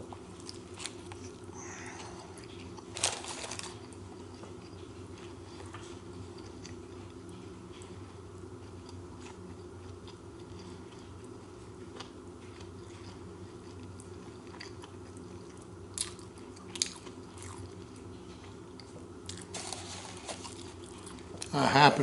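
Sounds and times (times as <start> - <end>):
person chewing food: 0.0 - 21.5
steady low hum: 0.0 - 22.0.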